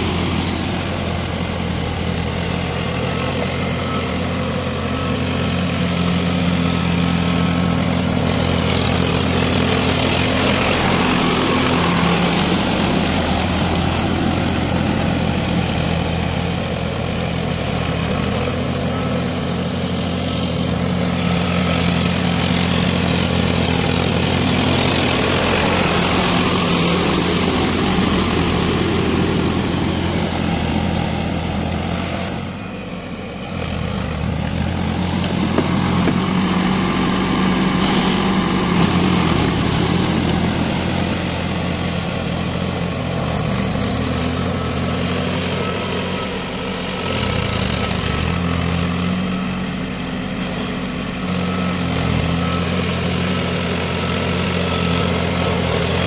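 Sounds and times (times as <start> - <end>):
blades churning mud and water: 0.0 - 56.0
tractor diesel engine under load: 0.0 - 56.0.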